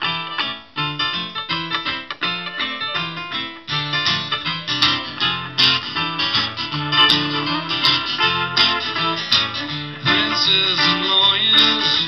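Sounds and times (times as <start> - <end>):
strummed acoustic guitar: 0.0 - 12.0
band playing live: 1.7 - 12.0.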